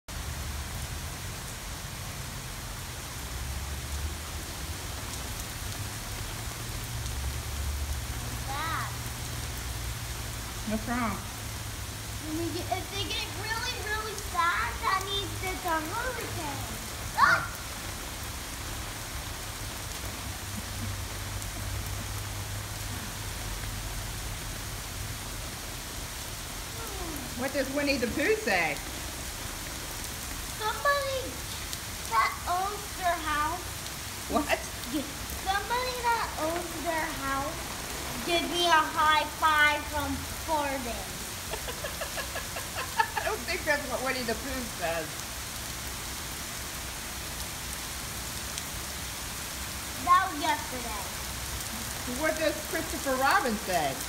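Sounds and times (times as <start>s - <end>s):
steady rain on grass and concrete: 0.0s - 54.0s.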